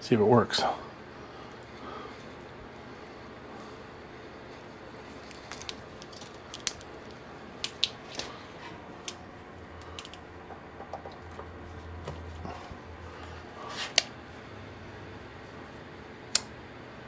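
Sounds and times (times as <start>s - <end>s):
fan motor humming: 0.0s - 17.0s.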